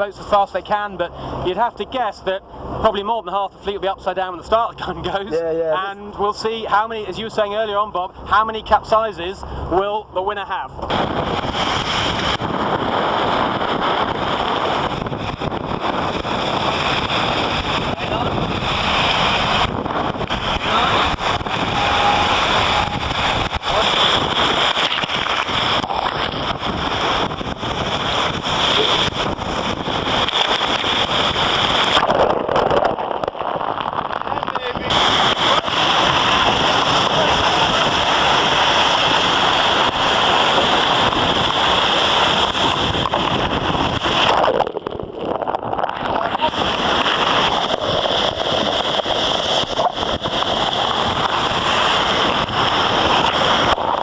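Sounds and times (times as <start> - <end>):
rushing water and spray: 0.0 - 3.0, 10.8 - 54.0
wind buffeting microphone: 0.0 - 54.0.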